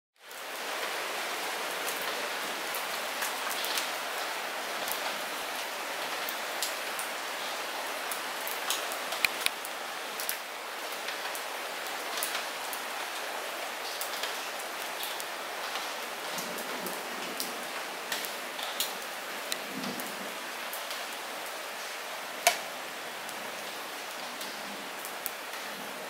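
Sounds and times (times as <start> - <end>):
light rain pattering: 0.2 - 26.0.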